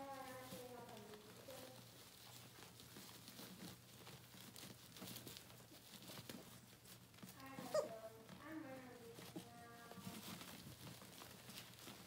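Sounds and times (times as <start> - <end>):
puppy pads crinkling: 0.0 - 12.0.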